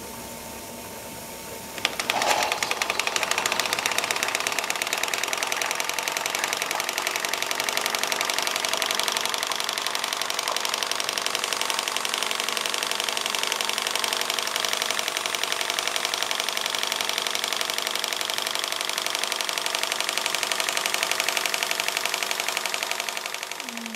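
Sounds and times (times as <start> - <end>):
model steam engine running: 1.8 - 23.9.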